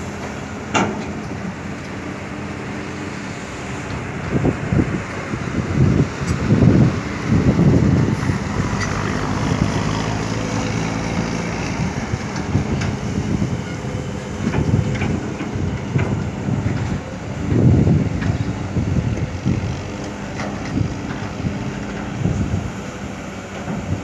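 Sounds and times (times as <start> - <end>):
diesel machinery engine: 0.0 - 24.0.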